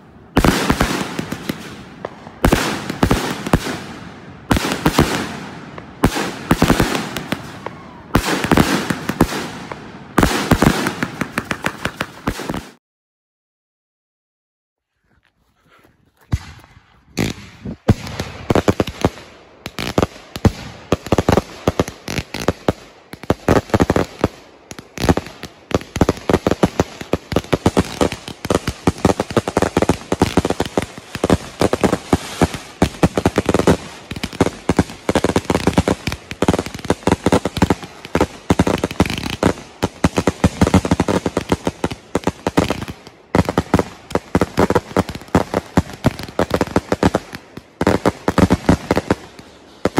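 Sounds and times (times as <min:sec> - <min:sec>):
fireworks barrage: 0:00.0 - 0:12.8, 0:16.3 - 0:49.9.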